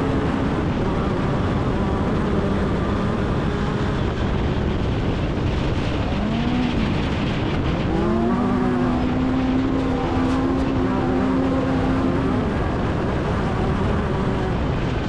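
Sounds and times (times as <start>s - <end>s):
race vehicle engine: 0.0s - 15.0s
rushing noise: 0.0s - 15.0s.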